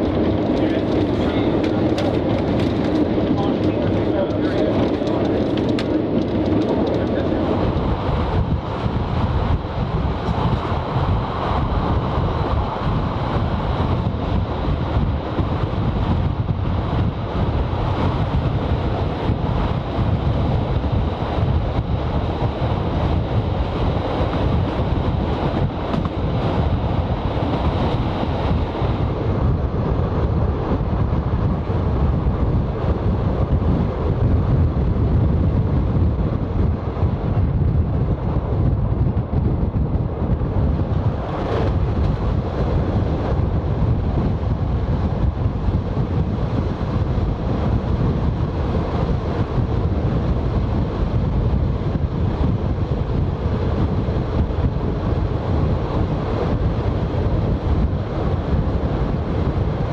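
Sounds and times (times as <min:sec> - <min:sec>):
railcar low running rumble: 0:00.0 - 0:59.9
wind buffeting microphone: 0:00.0 - 0:59.9.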